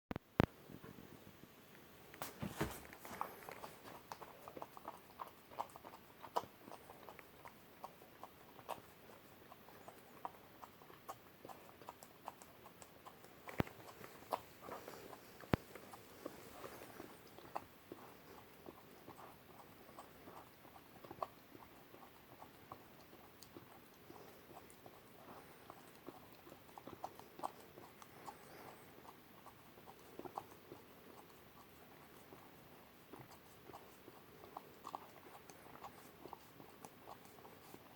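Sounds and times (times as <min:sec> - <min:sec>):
puppy licking and smacking: 0:02.2 - 0:37.9.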